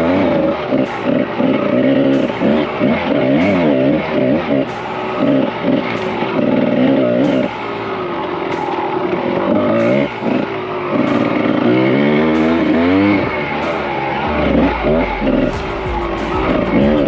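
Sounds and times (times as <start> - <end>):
background music with beat: 0.0 - 17.0
dirt bike engine revving: 0.0 - 17.0.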